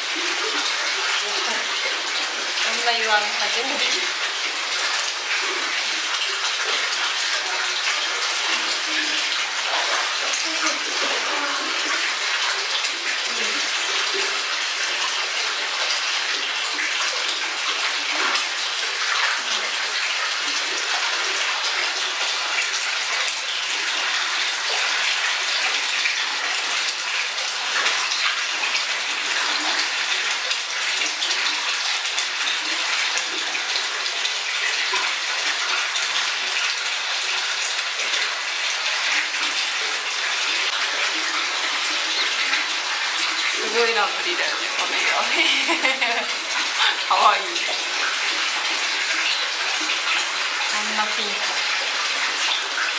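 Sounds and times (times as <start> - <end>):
water pouring into a bath: 0.0 - 52.9
water splashing: 0.0 - 52.9.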